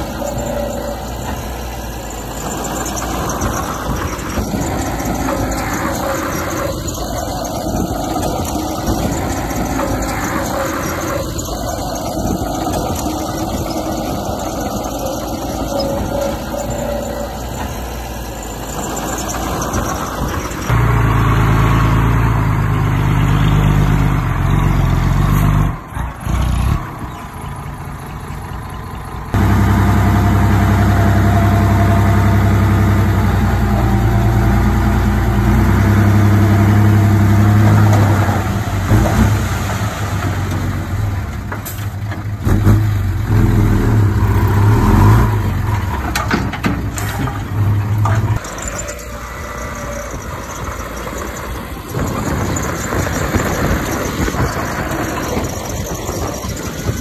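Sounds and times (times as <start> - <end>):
diesel engines of earthmoving machines: 0.0 - 57.0.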